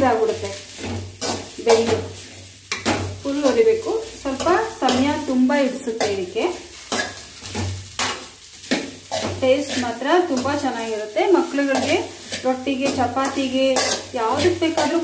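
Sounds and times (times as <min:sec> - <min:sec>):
light sizzle: 0:00.0 - 0:15.0
metal spoon scraping a pan: 0:00.0 - 0:15.0.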